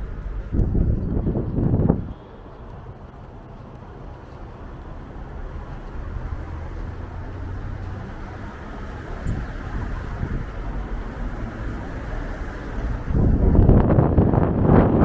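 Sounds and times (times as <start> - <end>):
street traffic: 0.0 - 15.0
wind blowing across microphone: 0.0 - 15.0.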